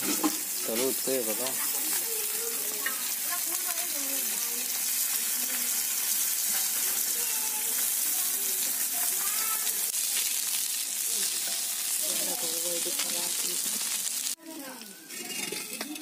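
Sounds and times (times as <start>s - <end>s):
fish sizzling in hot oil: 0.0s - 16.0s
metal spatula turning fish: 0.0s - 16.0s.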